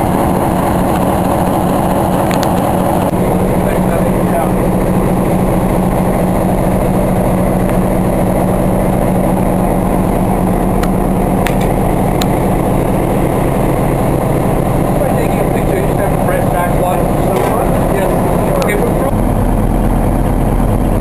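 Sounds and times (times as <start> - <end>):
diesel locomotive engine idling: 0.0 - 21.0.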